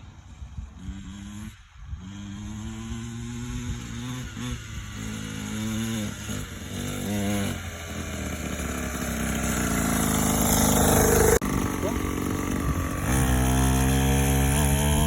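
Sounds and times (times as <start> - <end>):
dirt bike engine revving: 0.4 - 15.0.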